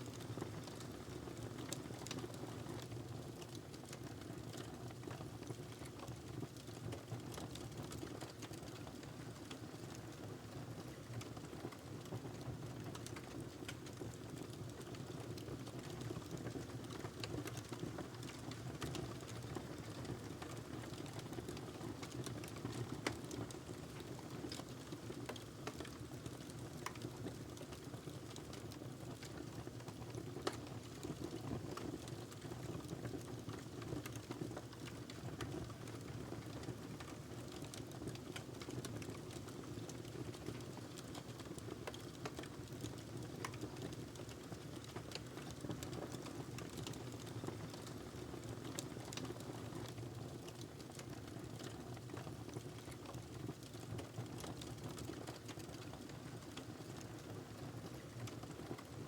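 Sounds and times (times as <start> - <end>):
log crackling in fireplace: 0.0 - 59.0.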